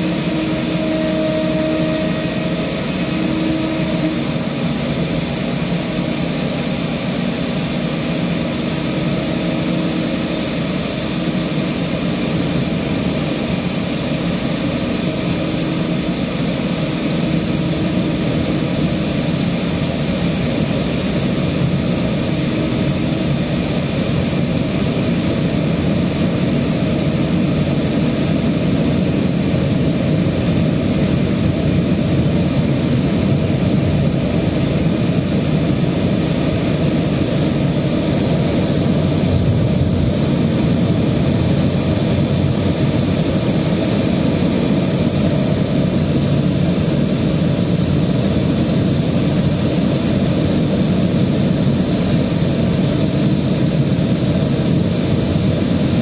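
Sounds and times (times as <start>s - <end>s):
gas turbine drone with high whine: 0.0s - 56.0s.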